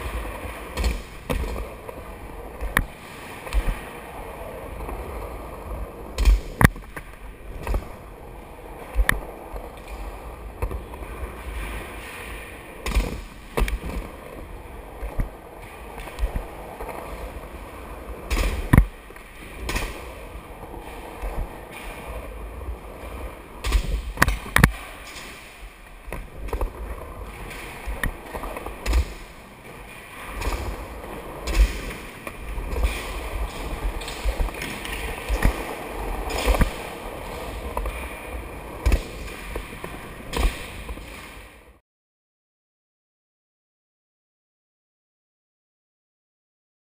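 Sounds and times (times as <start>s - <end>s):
skateboard wheels rolling on concrete: 0.0s - 41.8s.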